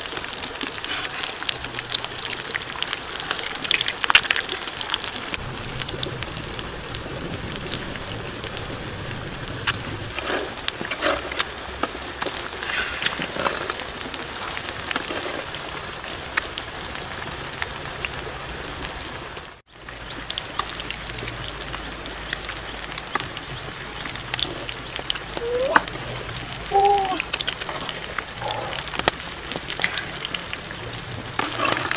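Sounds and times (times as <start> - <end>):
oil sizzling and spattering: 0.0 - 18.2, 19.4 - 31.9.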